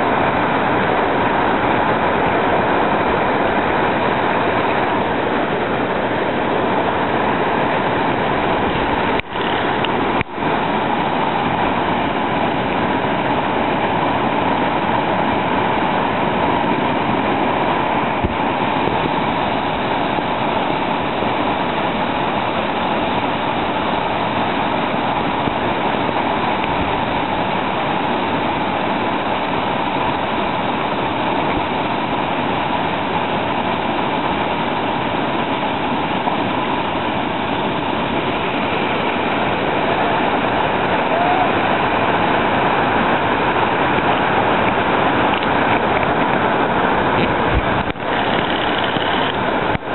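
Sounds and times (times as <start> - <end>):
whitewater rushing over boulders: 0.0 - 49.9.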